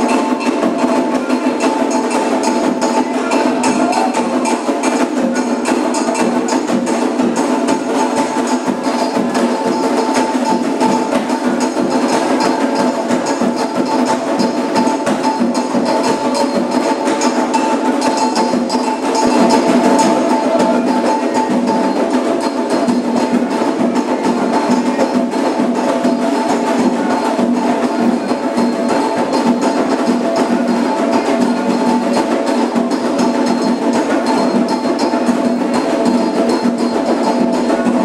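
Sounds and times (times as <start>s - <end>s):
bell-like percussion: 0.0s - 38.0s
drums: 0.0s - 38.0s.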